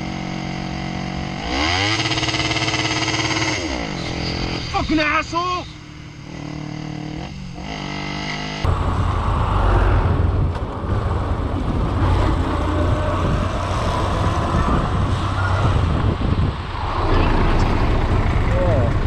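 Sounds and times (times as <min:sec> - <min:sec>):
motorcycle engine: 0:00.0 - 0:19.0
road traffic: 0:00.0 - 0:19.0.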